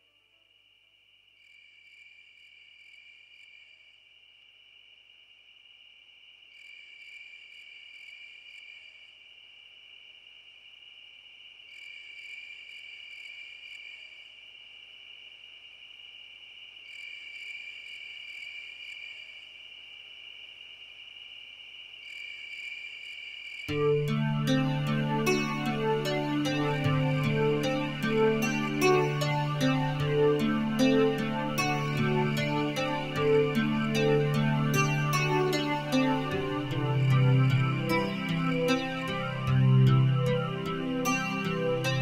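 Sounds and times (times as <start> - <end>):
crickets chirring: 0.0 - 42.0.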